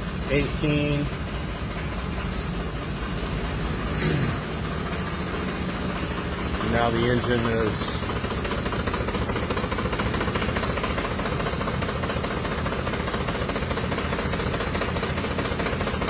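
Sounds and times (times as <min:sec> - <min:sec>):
engine idling and misfiring: 0:00.0 - 0:16.0.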